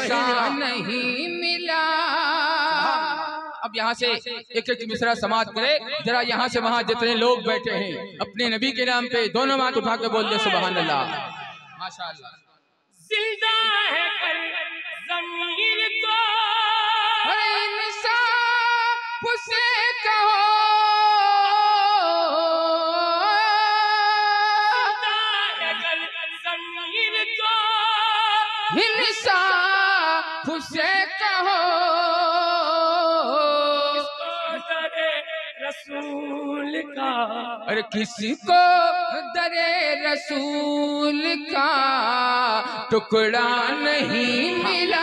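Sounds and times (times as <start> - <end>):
man singing into a microphone: 0.0 - 11.6, 13.0 - 45.0.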